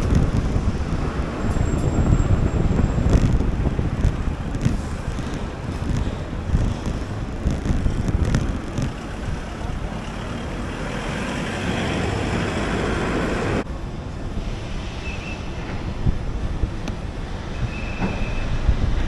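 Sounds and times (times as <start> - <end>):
city street traffic: 0.0 - 19.0
rush of noise: 0.0 - 19.0
wind buffeting microphone: 0.0 - 19.0.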